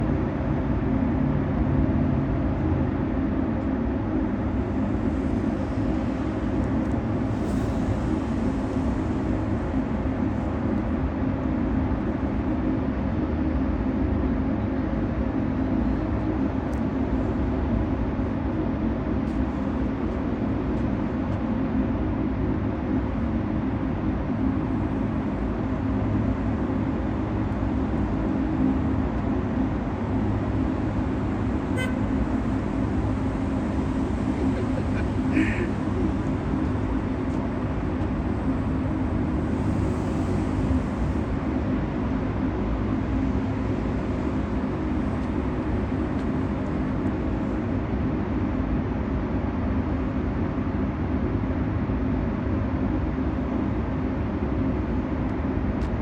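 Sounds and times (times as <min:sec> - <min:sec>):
road vehicle rumble: 0:00.0 - 0:56.0.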